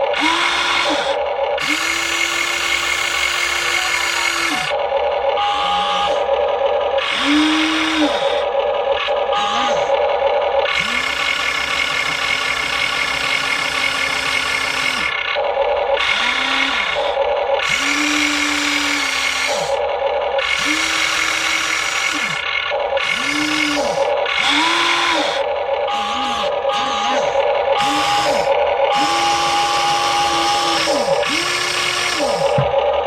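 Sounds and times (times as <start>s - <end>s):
small electric motors whirring: 0.0s - 33.0s.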